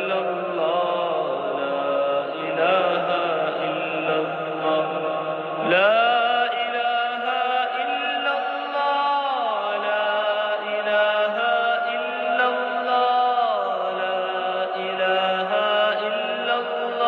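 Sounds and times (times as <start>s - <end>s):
chanting voice holding long notes: 0.0s - 17.0s.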